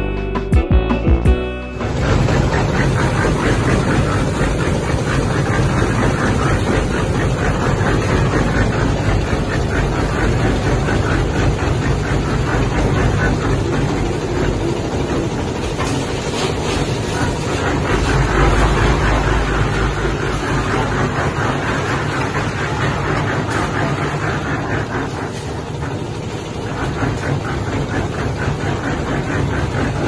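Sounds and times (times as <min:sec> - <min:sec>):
concrete mixer engine running: 0:01.2 - 0:30.0.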